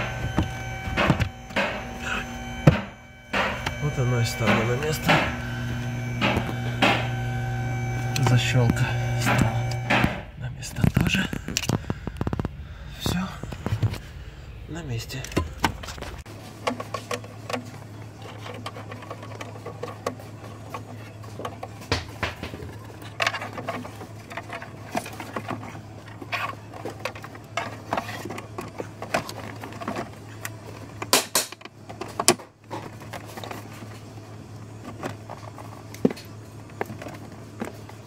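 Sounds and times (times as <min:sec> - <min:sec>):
steady low hum: 0:00.0 - 0:31.1.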